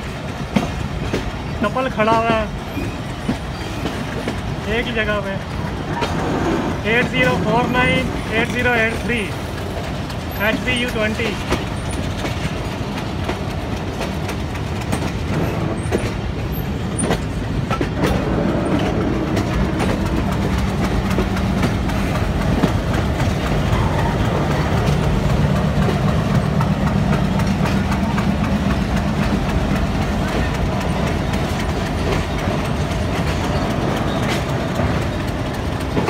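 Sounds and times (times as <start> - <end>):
clicks over rail joints: 0.0 - 36.0
train wheels rumbling: 0.0 - 36.0.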